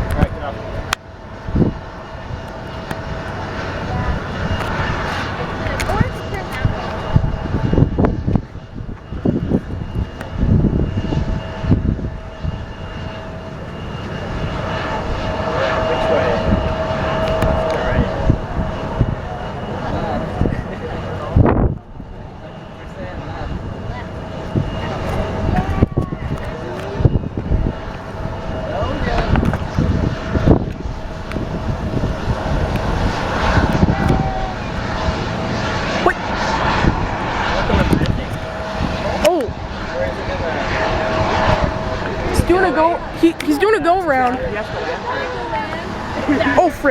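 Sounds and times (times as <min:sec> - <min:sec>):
airplane engine droning: 0:00.0 - 0:46.9
wind gusting on microphone: 0:00.0 - 0:46.9.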